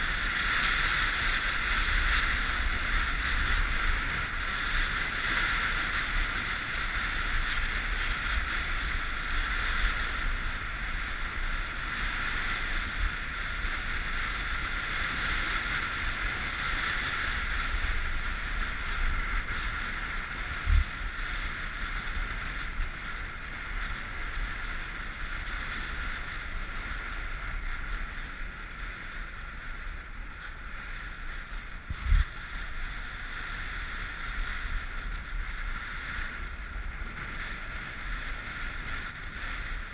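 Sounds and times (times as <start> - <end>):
snowboard sliding on packed snow: 0.0 - 39.9
wind: 0.0 - 39.9.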